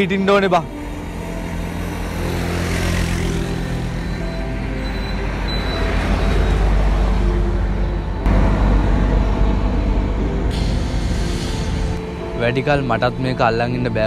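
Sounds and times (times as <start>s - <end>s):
heavy vehicle engine rumble: 0.0s - 14.0s.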